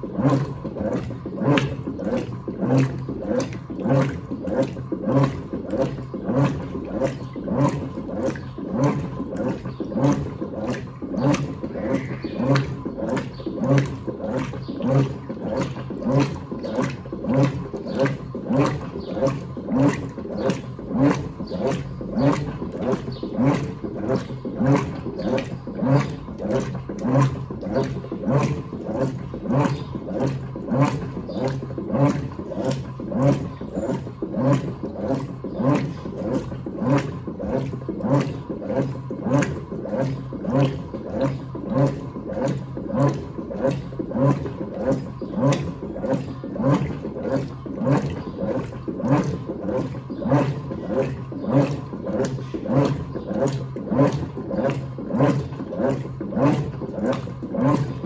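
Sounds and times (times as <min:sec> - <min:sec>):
washing machine agitator swishing: 0:00.0 - 0:58.0.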